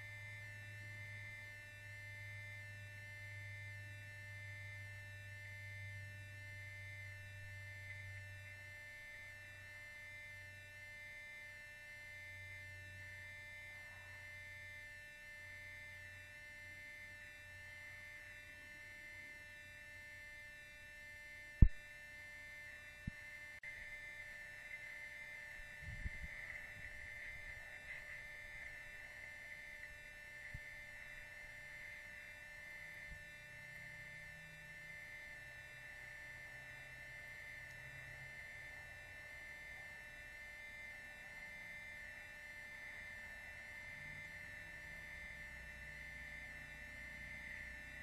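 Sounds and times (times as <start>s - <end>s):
electrical hum: 0.0s - 48.0s
thin high buzz: 0.0s - 48.0s.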